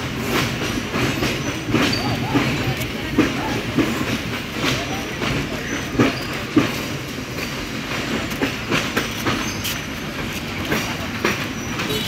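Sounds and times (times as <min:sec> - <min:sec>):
train rumble: 0:00.0 - 0:12.0
train wheels clacking: 0:00.0 - 0:12.0.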